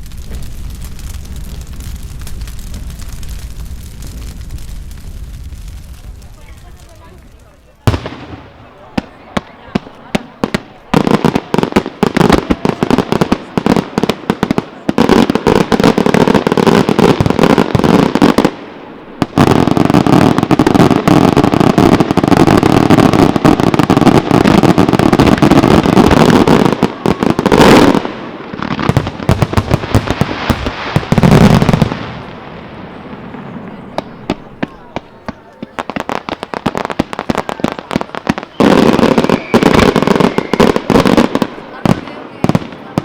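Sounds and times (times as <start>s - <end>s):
fireworks bangs and crackles: 0.0s - 43.0s
loud firework burst: 0.0s - 43.0s.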